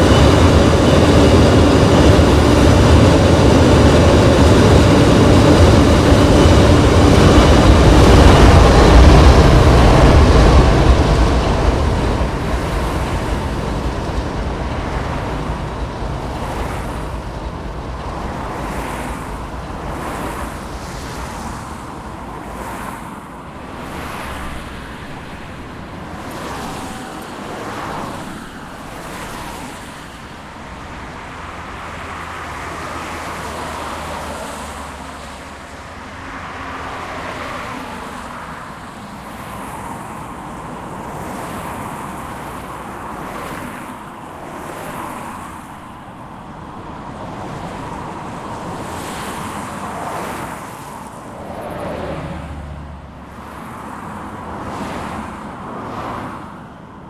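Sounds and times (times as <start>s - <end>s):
freight train rumbling: 0.0s - 57.0s
road traffic noise: 0.0s - 57.0s
wind: 0.0s - 57.0s.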